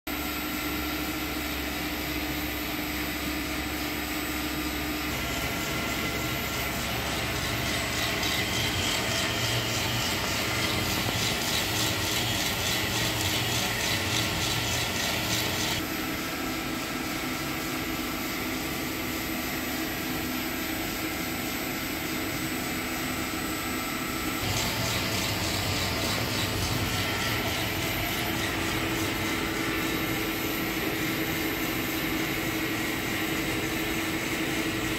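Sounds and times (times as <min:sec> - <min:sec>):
coffee roaster drum whirring: 0:00.1 - 0:34.9.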